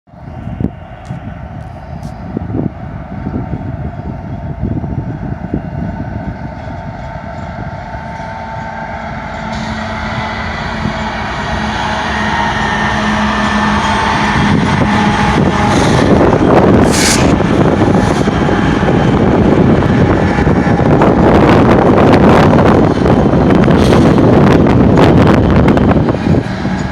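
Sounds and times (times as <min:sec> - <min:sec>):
diesel locomotive engines: 0:00.1 - 0:26.9
train wheel noise: 0:00.1 - 0:26.9.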